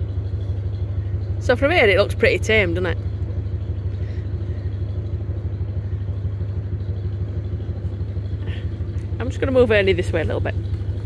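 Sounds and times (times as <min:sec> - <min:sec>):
diesel engine throbbing at low revs: 0:00.0 - 0:11.0.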